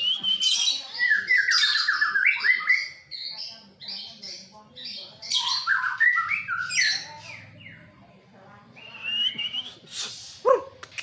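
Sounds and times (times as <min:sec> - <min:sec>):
songbird whistling chirps: 0:00.0 - 0:07.9, 0:08.8 - 0:10.2.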